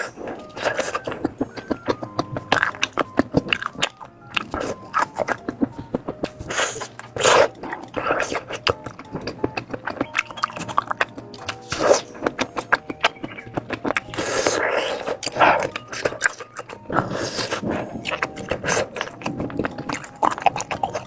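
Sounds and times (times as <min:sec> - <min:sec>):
background music: 0:00.0 - 0:21.0
chewing sausages: 0:00.0 - 0:21.0.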